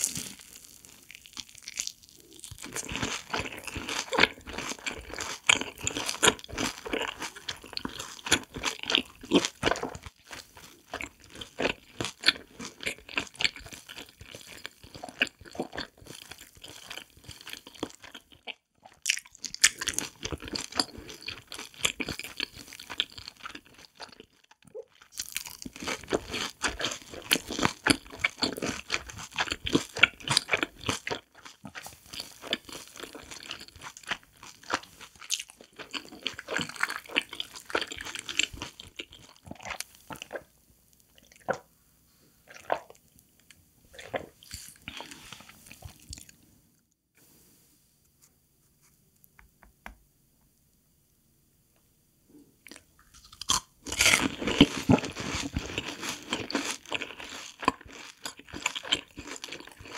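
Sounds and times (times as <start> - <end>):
crunching and chewing fried food: 0.0 - 41.7, 42.4 - 46.5, 52.6 - 59.9.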